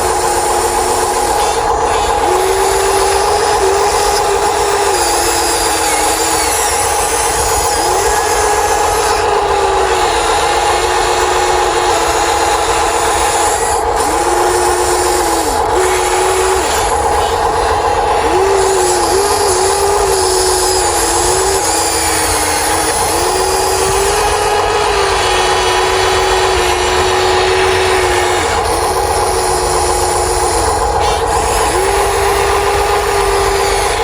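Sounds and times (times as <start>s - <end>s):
electric motors whining: 0.0s - 34.0s
steady hum and gear noise: 0.0s - 34.0s.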